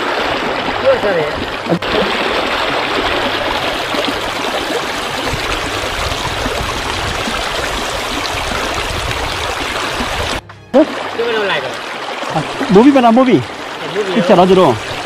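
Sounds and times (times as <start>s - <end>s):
river water flowing over rocks: 0.0s - 15.0s.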